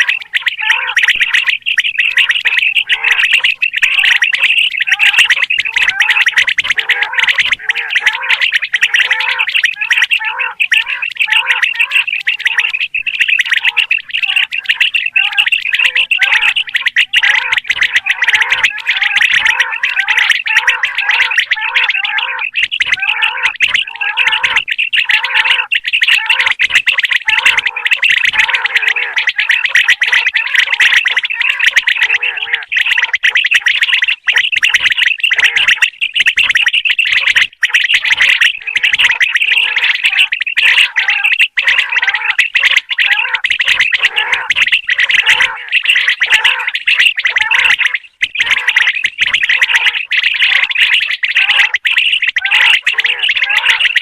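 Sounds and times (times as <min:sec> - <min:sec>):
quail calling: 0:00.0 - 0:54.0.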